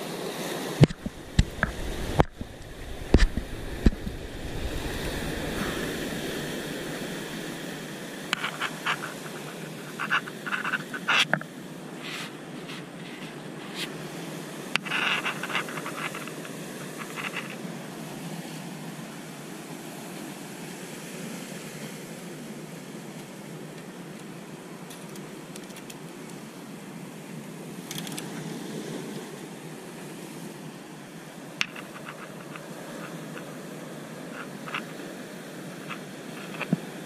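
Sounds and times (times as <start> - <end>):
sea surf: 0.0 - 37.0
wind hiss: 0.0 - 37.0.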